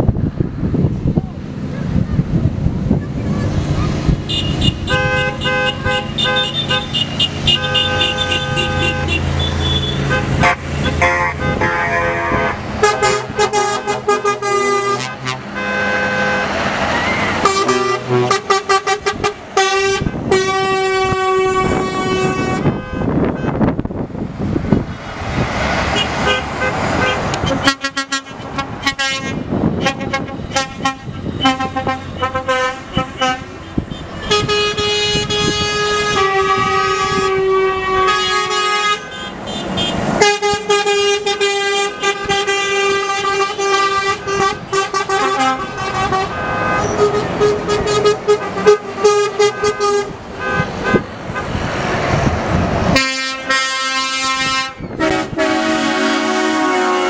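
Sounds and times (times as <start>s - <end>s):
truck engine and tyre noise: 0.0s - 57.0s
truck air horns blasting: 4.2s - 23.8s, 25.8s - 51.9s, 52.9s - 57.0s.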